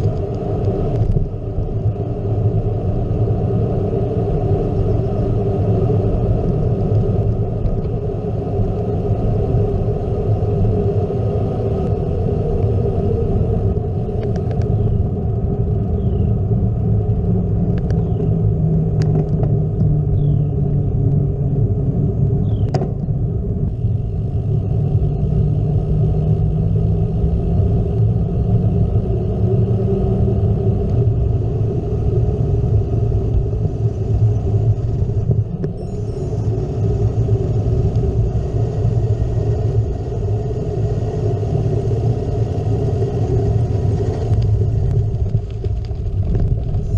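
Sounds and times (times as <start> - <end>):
bike tyres rumbling on pavement: 0.0 - 35.8, 36.5 - 46.9
wind on microphone: 0.0 - 46.9.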